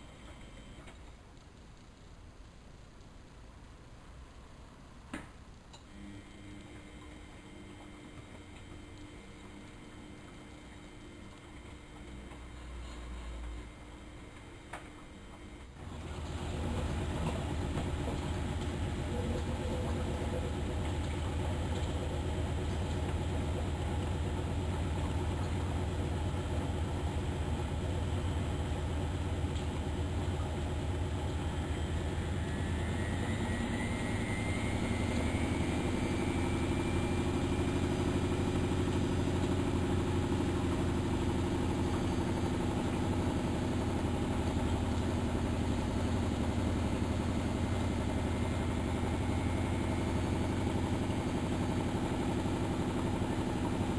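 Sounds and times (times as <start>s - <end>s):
washing machine running: 0.0s - 1.0s, 5.8s - 53.9s
drum spinning up whine: 5.5s - 53.9s.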